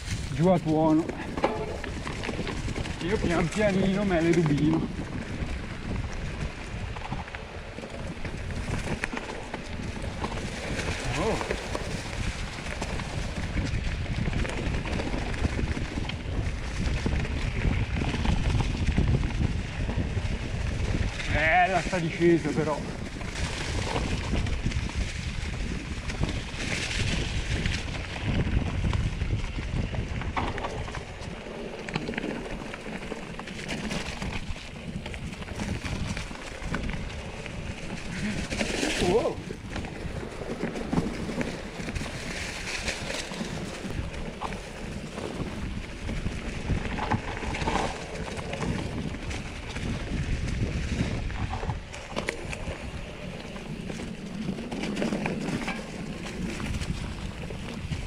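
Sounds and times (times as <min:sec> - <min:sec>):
bike clicks and rattles: 0:00.0 - 0:58.0
bike tyres crunching over stones: 0:00.0 - 0:58.0
wind rumble on microphone: 0:00.0 - 0:58.0.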